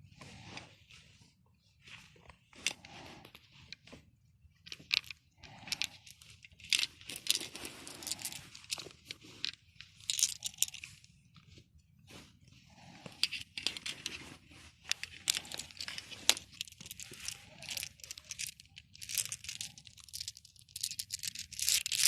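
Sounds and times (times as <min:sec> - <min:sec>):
objects rustling and clicking: 0:00.2 - 0:22.0.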